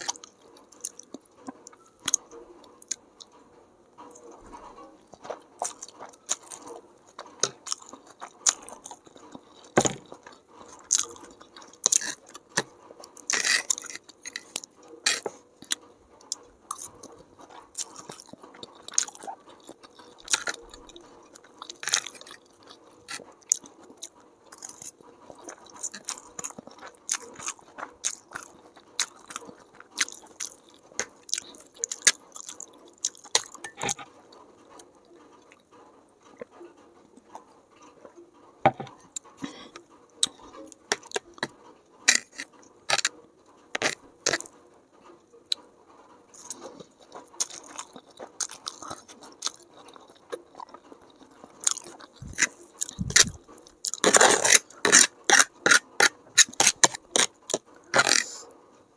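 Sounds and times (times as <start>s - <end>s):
chewing and slurping noodles: 0.0s - 35.7s, 36.3s - 44.6s, 46.3s - 58.5s.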